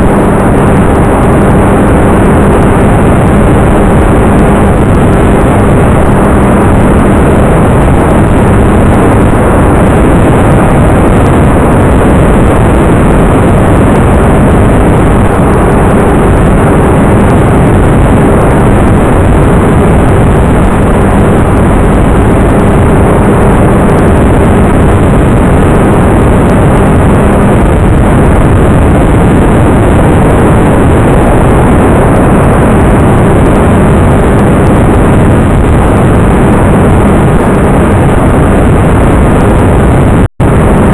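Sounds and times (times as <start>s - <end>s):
wind rushing: 0.0s - 40.9s.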